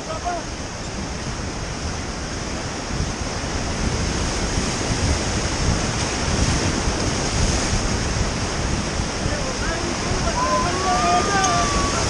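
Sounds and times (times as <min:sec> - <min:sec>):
whitewater rapids rushing: 0:00.0 - 0:12.0
wind buffeting microphone: 0:00.0 - 0:12.0.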